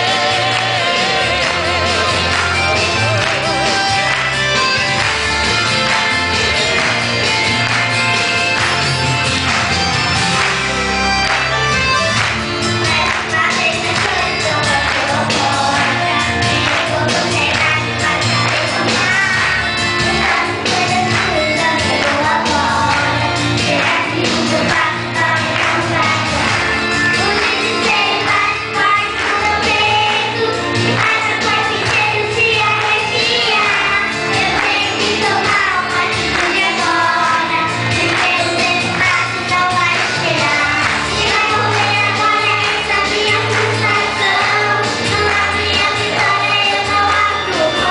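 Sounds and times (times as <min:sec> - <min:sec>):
children's choir singing a hymn: 0:00.0 - 0:08.9, 0:12.0 - 0:47.9
instrumental backing: 0:00.0 - 0:47.9.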